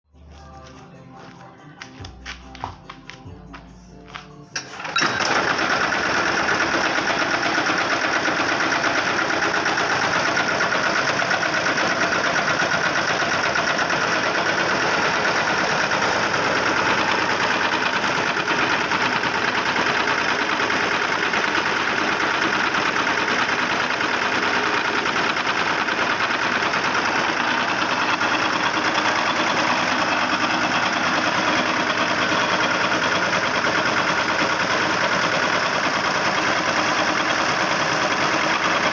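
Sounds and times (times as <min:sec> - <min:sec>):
diesel engine running: 0:00.2 - 0:38.9.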